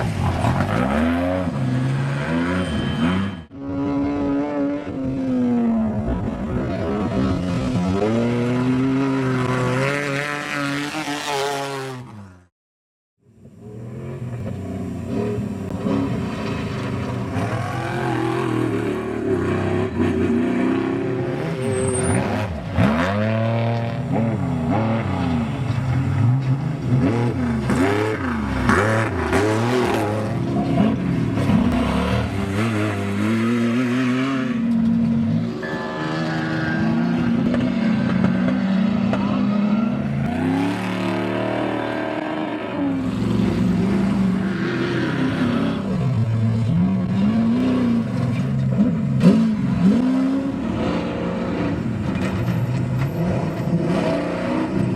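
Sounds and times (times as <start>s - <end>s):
truck engines revving: 0.0s - 12.5s, 13.4s - 54.9s.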